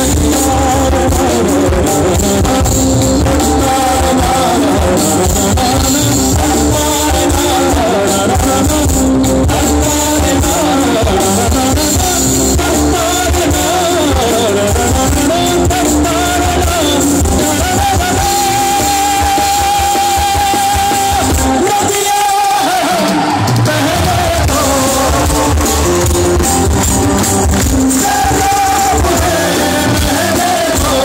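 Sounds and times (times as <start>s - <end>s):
male singer: 0.0s - 26.8s, 27.6s - 31.0s
bass guitar: 0.0s - 31.0s
drum kit: 0.0s - 31.0s
electric guitar: 0.0s - 31.0s.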